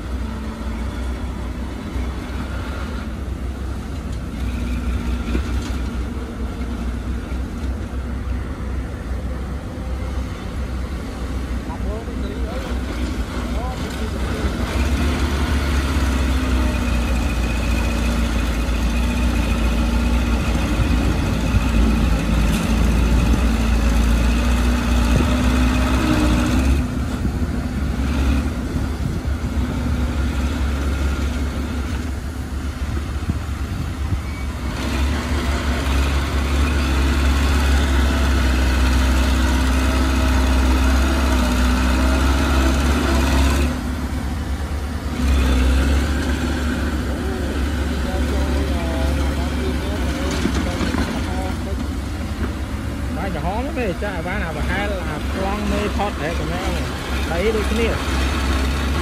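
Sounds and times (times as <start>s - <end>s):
heavy diesel engine rumbling: 0.0s - 59.0s.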